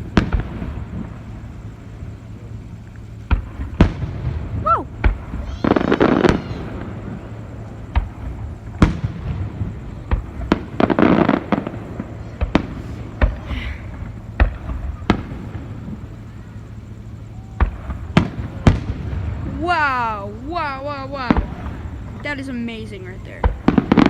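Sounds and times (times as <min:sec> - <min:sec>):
fireworks booming: 0:00.0 - 0:24.0
fireworks hissing crackle: 0:00.0 - 0:24.0.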